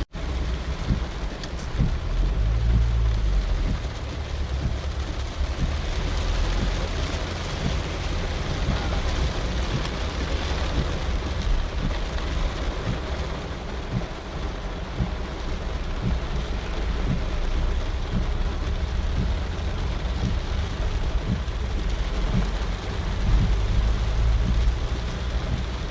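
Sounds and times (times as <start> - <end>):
deep low rumble: 0.0 - 25.9
steady rain: 0.0 - 25.9.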